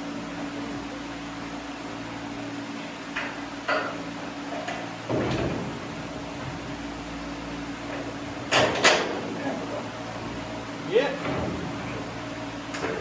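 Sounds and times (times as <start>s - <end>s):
steady fan hum: 0.0s - 13.0s.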